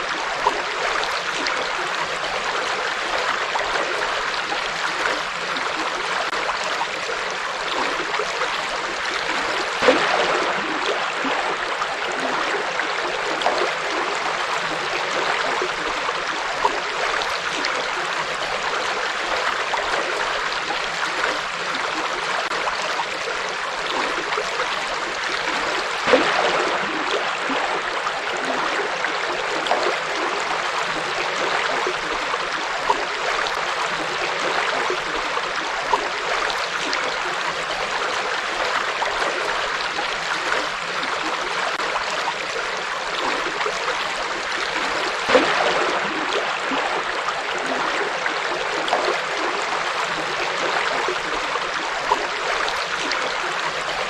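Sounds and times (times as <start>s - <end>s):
water splashes: 0.0s - 54.0s.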